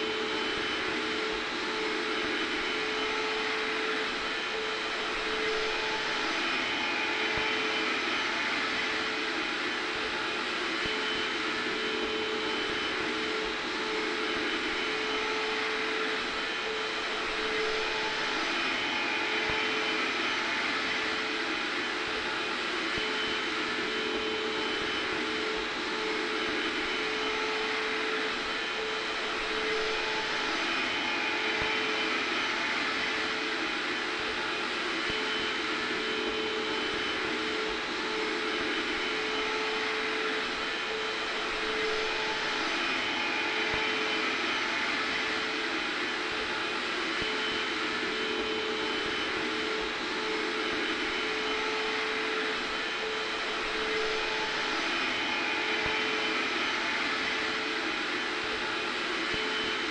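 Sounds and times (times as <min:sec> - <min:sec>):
hair dryer running: 0:00.0 - 0:59.9
vacuum cleaner: 0:00.0 - 0:59.9.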